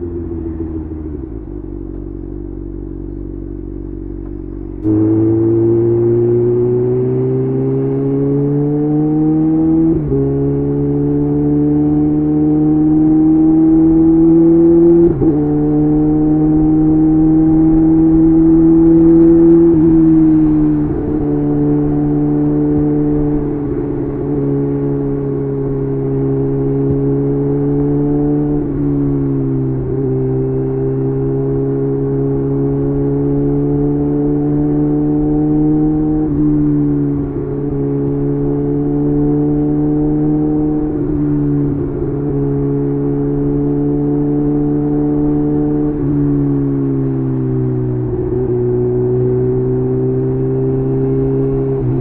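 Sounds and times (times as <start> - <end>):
sport motorcycle revving high: 3.4 - 52.0.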